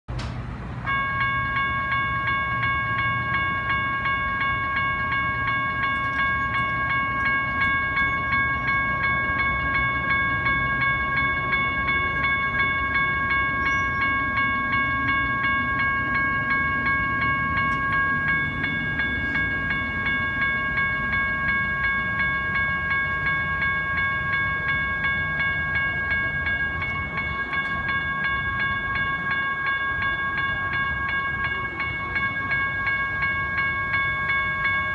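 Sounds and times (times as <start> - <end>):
railroad crossing bells ringing: 0.1 - 34.9.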